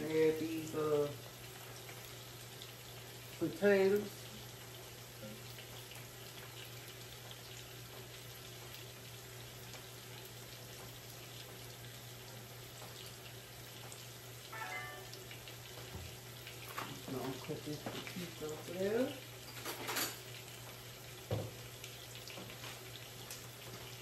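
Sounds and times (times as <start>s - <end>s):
potatoes sizzling in a skillet: 0.0s - 24.0s.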